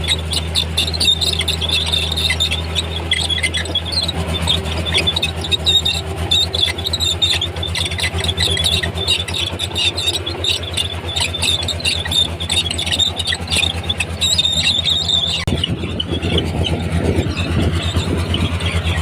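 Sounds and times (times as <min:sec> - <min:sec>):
bulldozer diesel engine: 0:00.0 - 0:19.0
steel tracks squeaking: 0:00.0 - 0:19.0.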